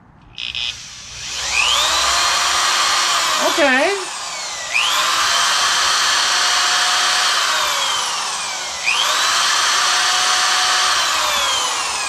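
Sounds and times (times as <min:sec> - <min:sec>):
electric drill motor spinning: 0:00.4 - 0:12.0.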